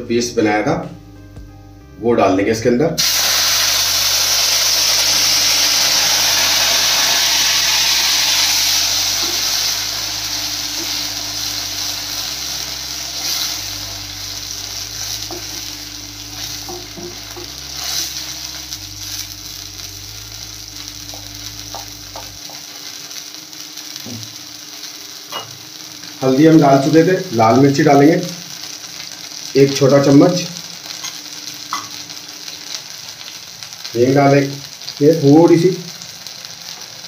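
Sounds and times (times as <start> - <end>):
paste sizzling in hot oil: 3.0 - 37.0.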